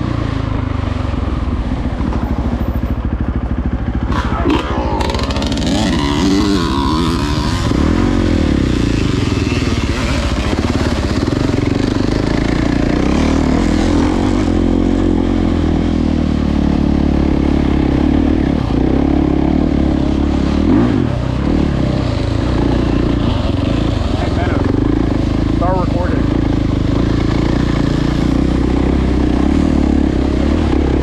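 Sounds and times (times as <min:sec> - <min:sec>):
dirt bike engine revving: 0:03.6 - 0:31.0.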